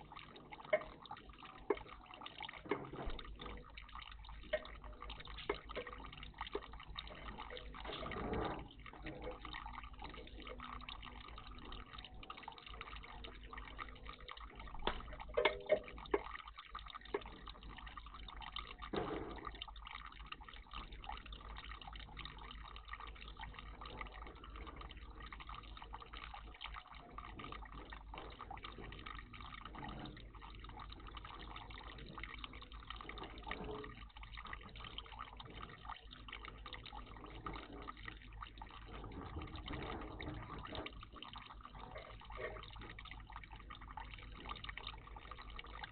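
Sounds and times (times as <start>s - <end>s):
water splashing and dripping: 0.0s - 45.9s.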